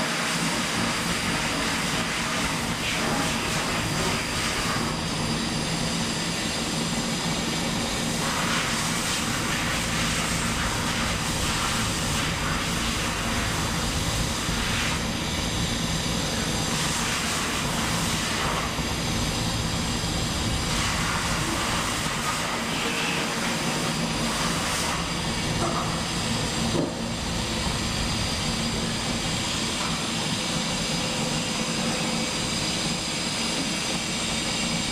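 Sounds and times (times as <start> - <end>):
machine hiss: 0.0 - 34.9
machine hum: 0.8 - 34.9.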